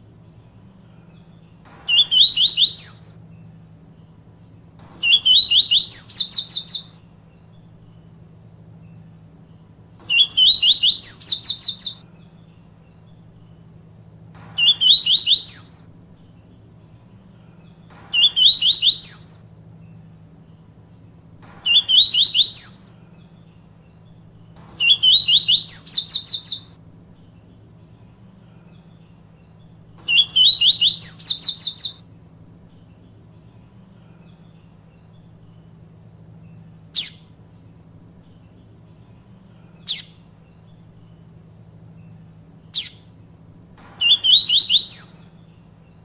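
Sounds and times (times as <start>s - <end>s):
faint low hum: 0.0s - 46.0s
bird whistling song: 0.9s - 3.2s, 4.9s - 20.6s, 21.5s - 26.8s, 28.5s - 32.0s, 34.0s - 37.4s, 38.2s - 43.1s, 43.9s - 46.0s.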